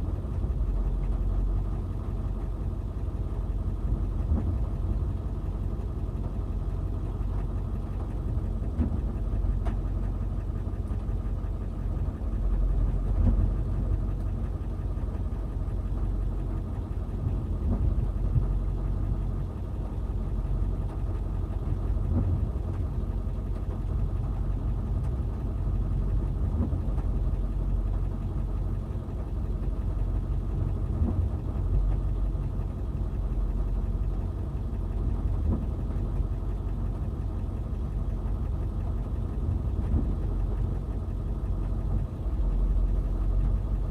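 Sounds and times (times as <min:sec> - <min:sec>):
diesel engine low rumble: 0:00.0 - 0:43.9.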